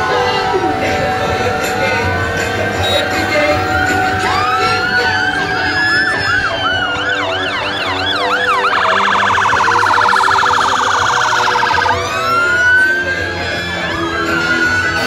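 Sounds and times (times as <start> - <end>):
fire engine sirens: 0.0 - 15.0
low engine rumble: 0.0 - 15.0.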